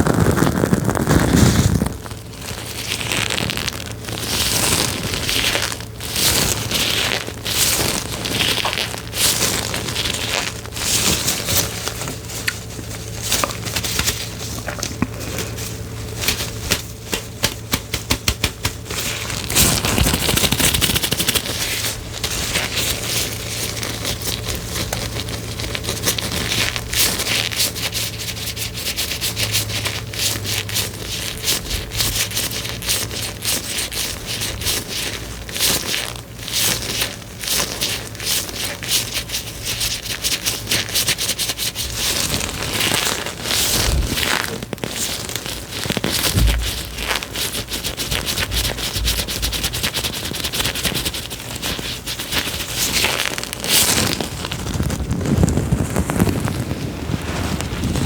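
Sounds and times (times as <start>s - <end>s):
crackling and rubbing on microphone: 0.0s - 58.0s.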